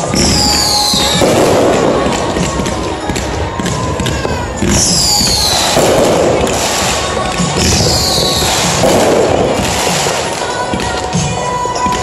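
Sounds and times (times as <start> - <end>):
firework blast: 0.0 - 11.3
firework whistling: 0.0 - 11.3
fireworks crackling: 0.0 - 12.0.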